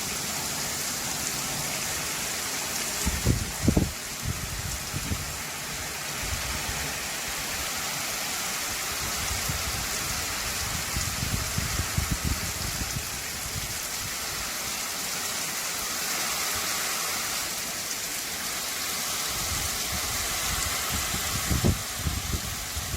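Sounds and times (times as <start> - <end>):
rain on leaves: 0.0 - 22.9.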